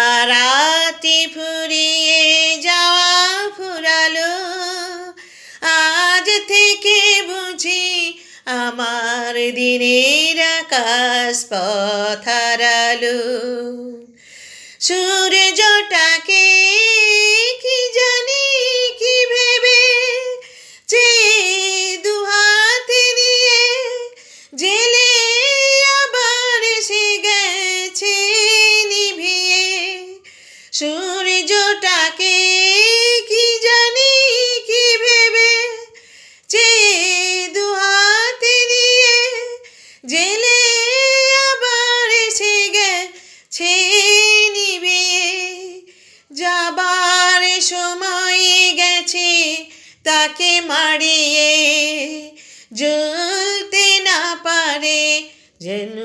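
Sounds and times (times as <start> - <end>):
woman singing unaccompanied: 0.0 - 14.2, 14.8 - 56.0.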